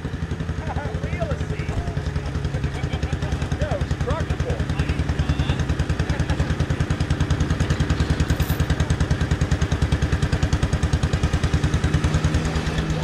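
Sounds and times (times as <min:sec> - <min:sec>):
garden tractor engine pulsing: 0:00.0 - 0:13.0.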